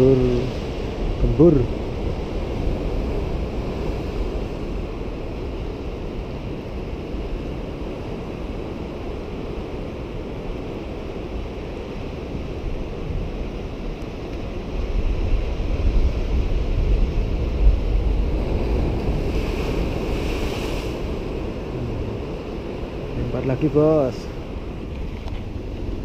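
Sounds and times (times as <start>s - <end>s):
sea surf: 0.0s - 26.0s
wind rumbling on microphone: 0.0s - 26.0s.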